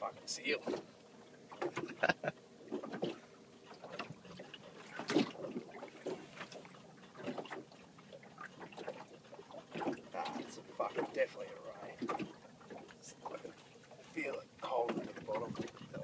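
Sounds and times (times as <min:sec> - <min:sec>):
water slapping against boat hull: 0:00.0 - 0:00.9, 0:01.5 - 0:16.0.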